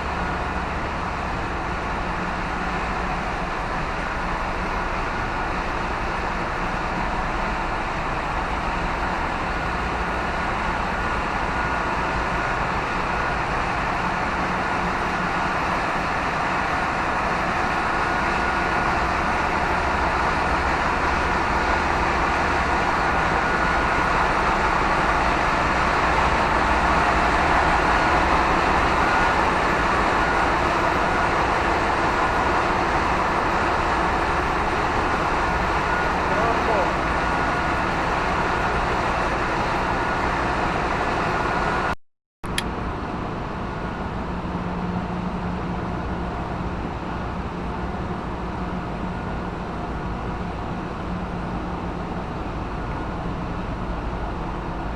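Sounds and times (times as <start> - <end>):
engine room machinery din: 0.0 - 54.9.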